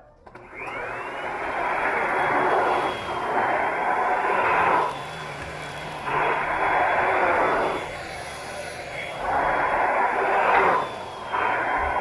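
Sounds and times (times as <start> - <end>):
vacuum cleaner running: 0.3 - 12.0.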